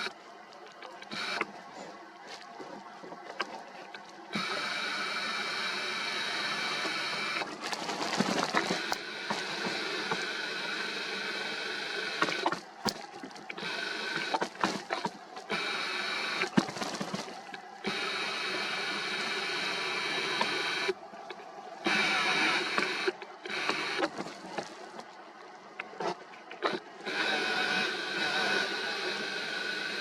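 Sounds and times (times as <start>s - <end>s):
mechanical whirring hum: 0.0s - 30.0s.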